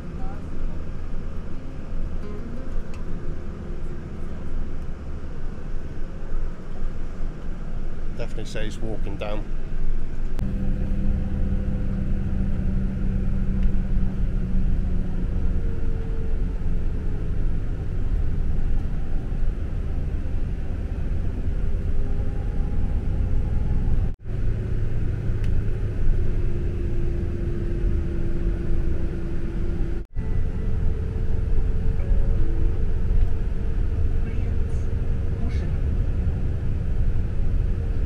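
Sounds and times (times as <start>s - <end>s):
bus engine and road noise: 0.0s - 38.0s.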